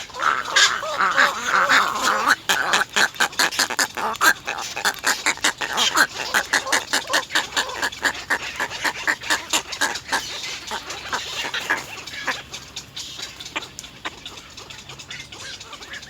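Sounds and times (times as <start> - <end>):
egret chicks begging calls: 0.0 - 16.0.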